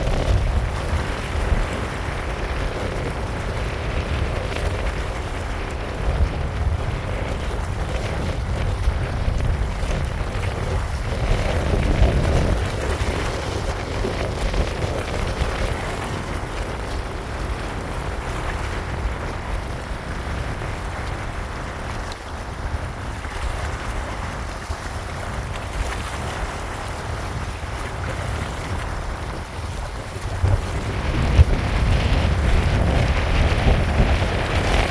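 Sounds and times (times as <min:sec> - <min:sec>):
rain by river: 0:00.0 - 0:34.9
wind buffeting microphone: 0:00.0 - 0:34.9.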